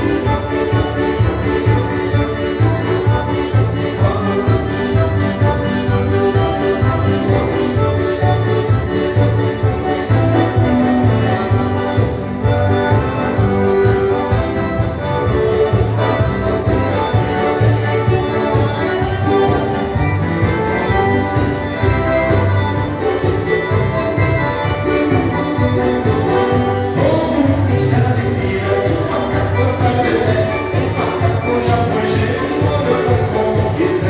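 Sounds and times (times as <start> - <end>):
accordion: 0.0 - 34.0.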